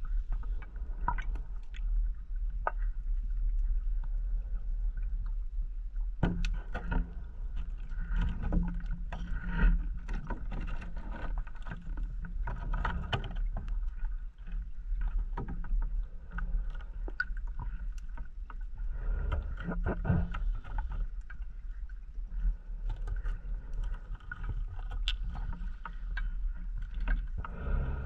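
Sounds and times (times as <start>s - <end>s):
low underwater rumble: 0.0s - 28.0s.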